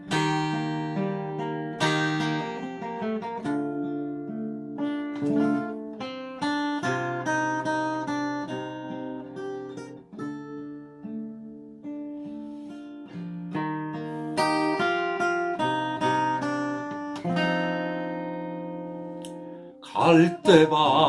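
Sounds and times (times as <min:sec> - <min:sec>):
acoustic guitar ballad: 0:00.0 - 0:21.0.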